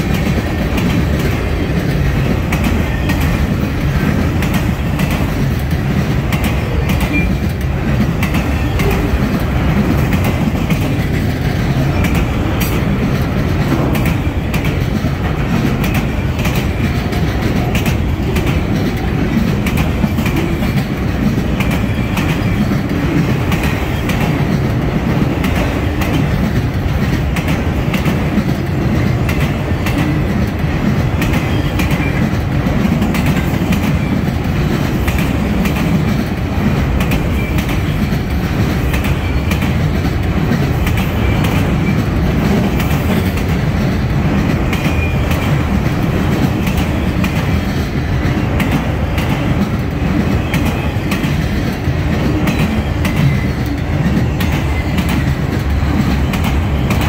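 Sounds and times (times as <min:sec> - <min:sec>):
train wheels rumbling on rails: 0:00.0 - 0:57.0
wheels clicking over rail joints: 0:00.0 - 0:57.0.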